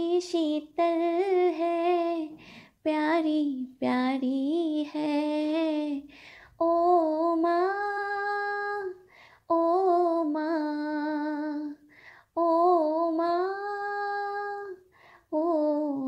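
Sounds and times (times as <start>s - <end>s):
woman singing unaccompanied: 0.0s - 11.8s, 12.4s - 16.0s.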